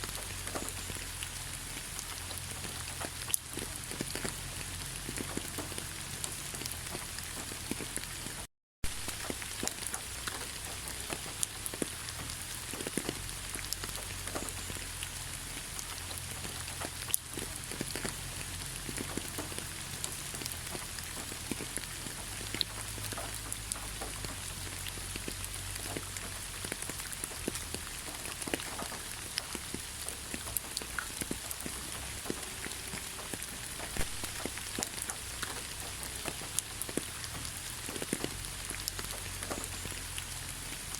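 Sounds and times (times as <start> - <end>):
rain falling in a forest: 0.0 - 40.9.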